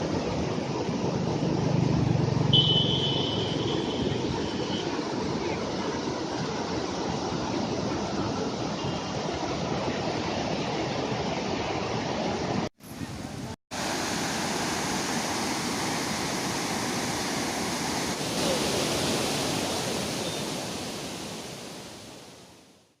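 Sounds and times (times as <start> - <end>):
rushing water: 0.0 - 22.9.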